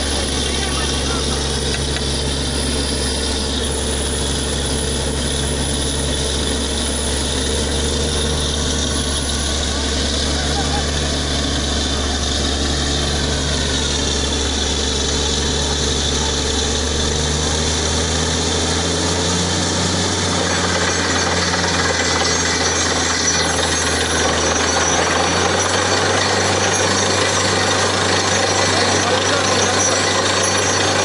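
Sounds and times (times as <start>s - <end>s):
drilling rig drone: 0.0s - 31.0s.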